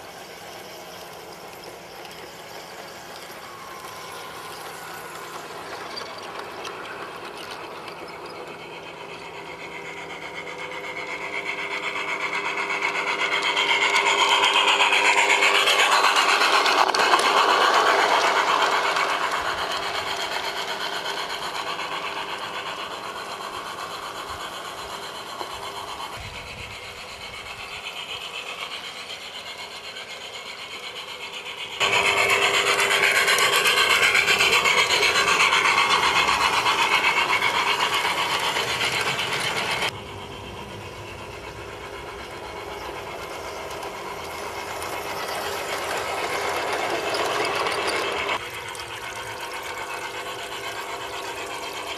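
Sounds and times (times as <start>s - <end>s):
model train running on track: 0.0s - 51.9s.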